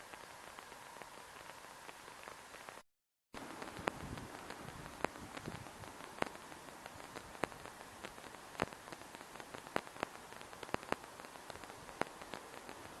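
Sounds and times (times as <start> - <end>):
heavy rain falling: 0.0 - 2.8, 3.4 - 13.0
large raindrops tapping: 0.0 - 2.8, 3.4 - 13.0.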